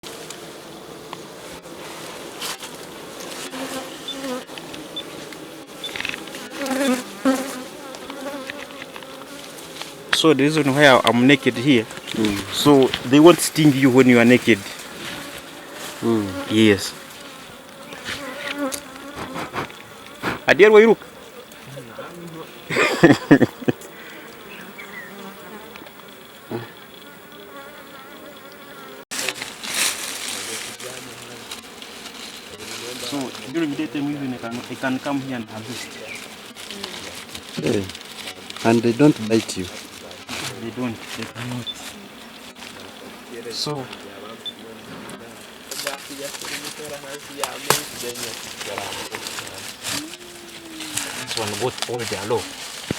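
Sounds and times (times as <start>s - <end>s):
bees buzzing: 0.0s - 52.9s
single bees passing close: 0.0s - 52.9s.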